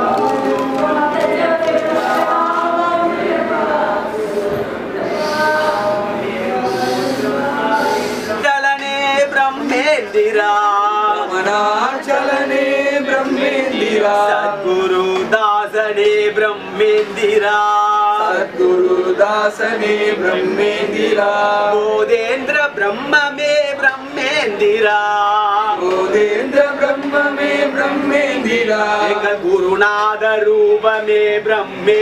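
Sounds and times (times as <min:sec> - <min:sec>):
man singing a chant: 0:00.0 - 0:32.0.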